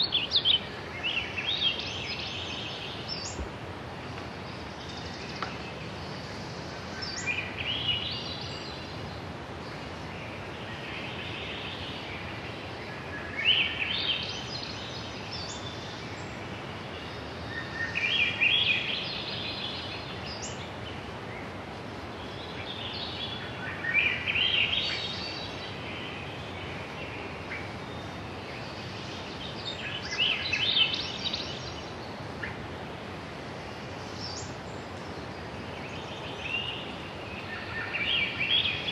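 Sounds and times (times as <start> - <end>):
outdoor background hiss: 0.0 - 38.9
songbird singing: 0.0 - 38.9.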